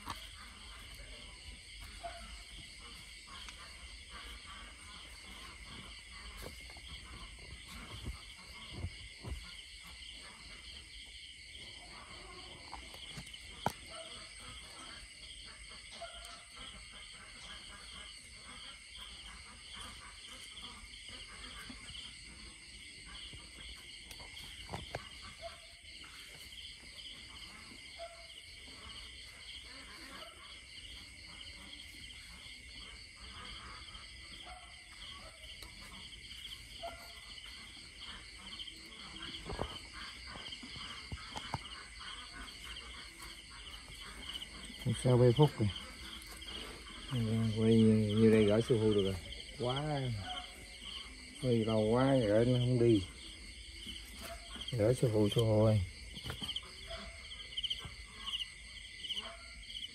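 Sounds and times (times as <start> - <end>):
crickets and insects chirring: 0.0 - 59.9.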